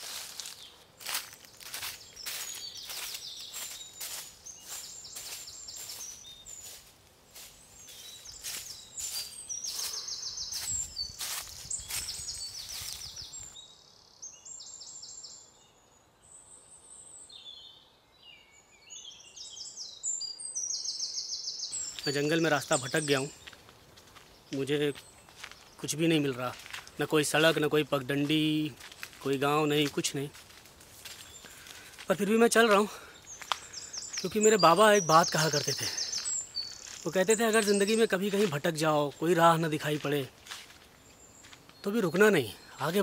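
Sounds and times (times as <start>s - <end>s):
footsteps crunching dry leaves: 0.0s - 13.6s, 21.8s - 43.0s
small birds chirping: 0.0s - 43.0s.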